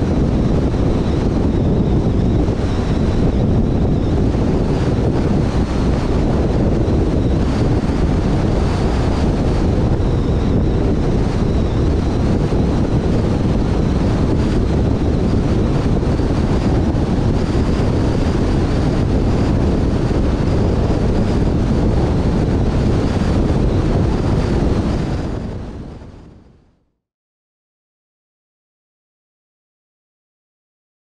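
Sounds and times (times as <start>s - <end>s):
car tyre and wind noise: 0.0s - 26.8s
faint high whine: 0.0s - 26.8s.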